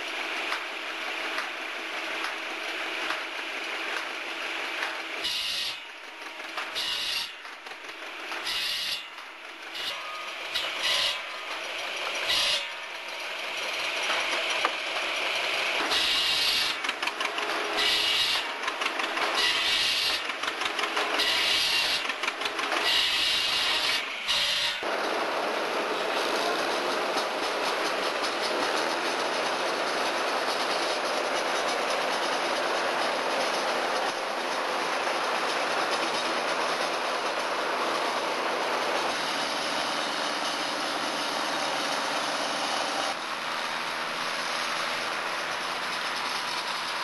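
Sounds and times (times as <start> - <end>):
circular saw cutting logs: 0.0 - 47.0
saw running hum: 0.0 - 47.0
tractor working a snowblower: 0.0 - 47.0.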